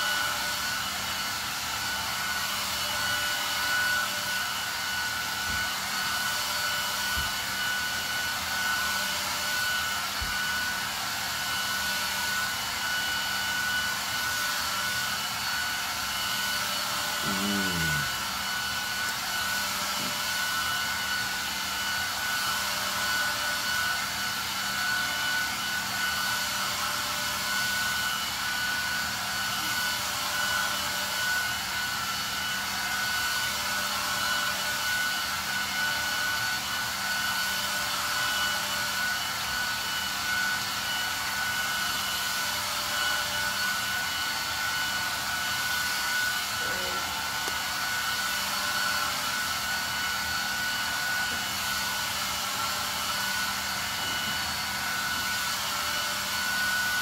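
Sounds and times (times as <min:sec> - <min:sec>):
electric fan whirring: 0:00.0 - 0:57.0.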